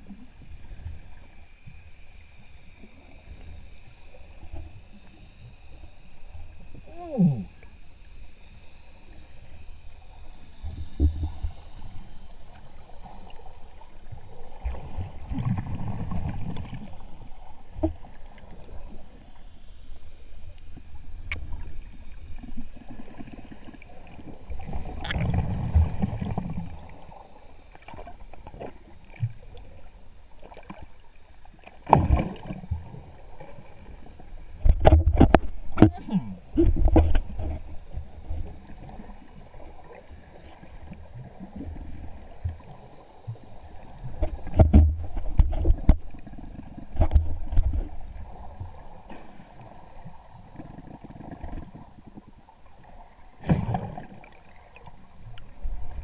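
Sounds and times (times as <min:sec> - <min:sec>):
muffled underwater water wash: 0:00.0 - 0:56.0
faint underwater clicks: 0:00.9 - 0:56.0.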